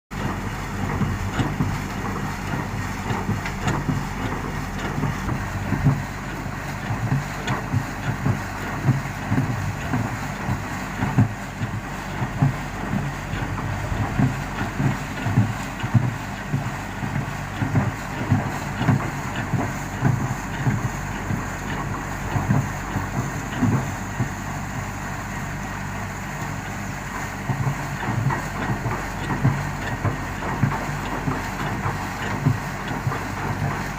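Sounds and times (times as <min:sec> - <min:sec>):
diesel machinery running: 0:00.1 - 0:33.9.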